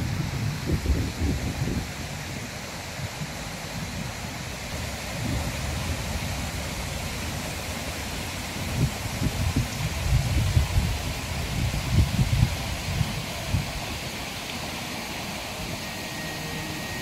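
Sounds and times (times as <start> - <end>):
wind buffeting microphone: 0.0 - 14.2
wind blowing: 0.0 - 17.0.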